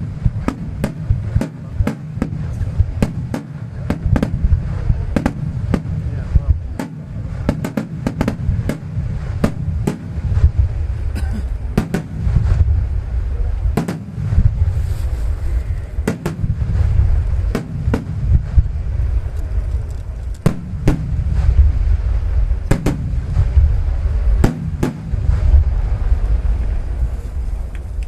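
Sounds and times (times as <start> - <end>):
fireworks bursting: 0.0 - 28.0
low rumble of booming: 0.0 - 28.0.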